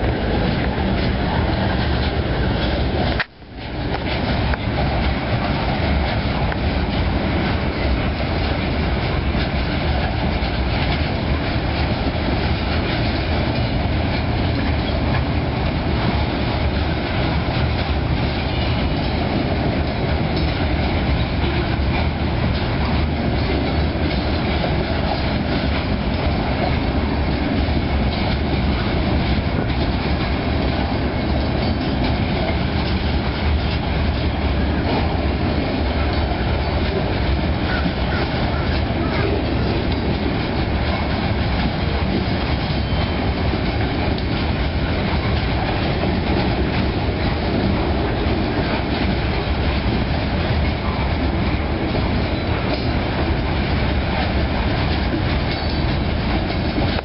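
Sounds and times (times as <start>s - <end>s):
freight train rolling past: 0.0s - 57.0s
wheels clickety-clack on rail: 0.0s - 57.0s.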